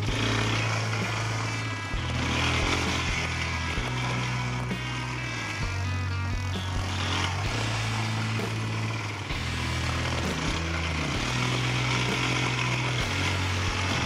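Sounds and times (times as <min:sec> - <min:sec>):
quad bike engine revving: 0:00.0 - 0:14.0.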